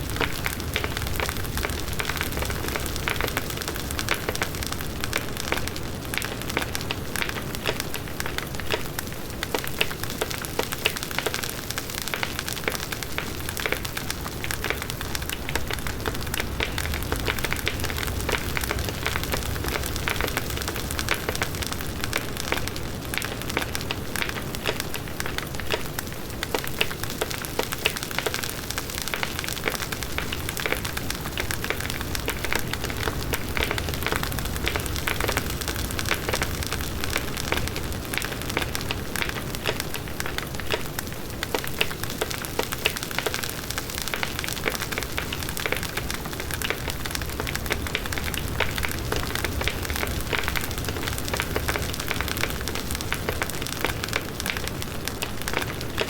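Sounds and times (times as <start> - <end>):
burning wood crackling: 0.0 - 56.0.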